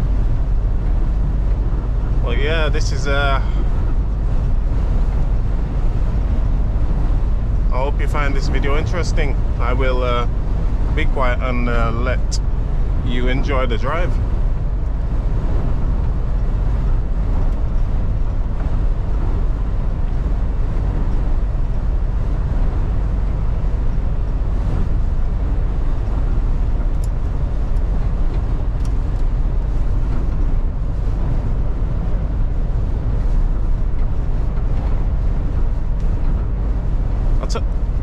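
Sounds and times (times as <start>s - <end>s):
lorry engine drone: 0.0s - 38.0s.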